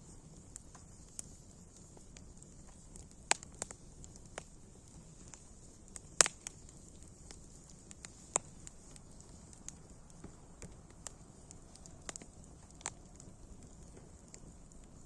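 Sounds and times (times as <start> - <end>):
faint steady hiss: 0.0 - 15.0
wood fire crackling and popping: 0.0 - 15.0.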